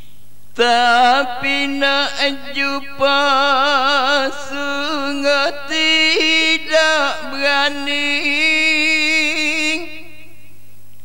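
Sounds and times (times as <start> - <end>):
solo voice singing melismatic line: 0.6 - 10.2.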